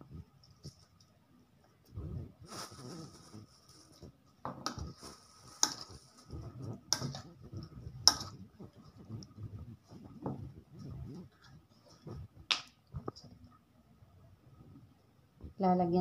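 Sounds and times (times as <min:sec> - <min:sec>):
soft wet stirring: 0:00.0 - 0:13.7.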